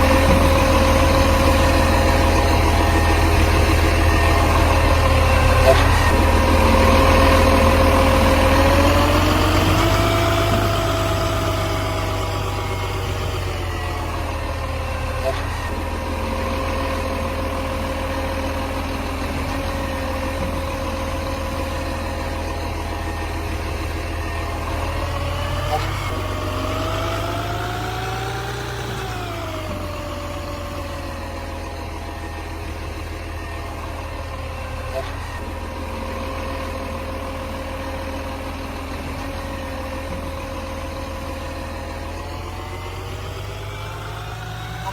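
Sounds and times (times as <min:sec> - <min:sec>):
garbage truck engine running: 0:00.0 - 0:44.9
whine: 0:00.0 - 0:44.9.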